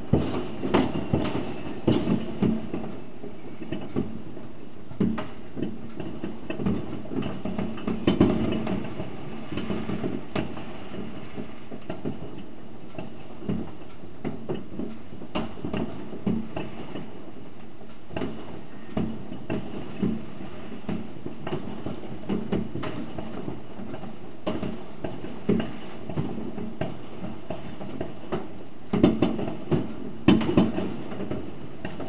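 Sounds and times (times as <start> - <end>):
distant fireworks and firecrackers: 0.0 - 32.0.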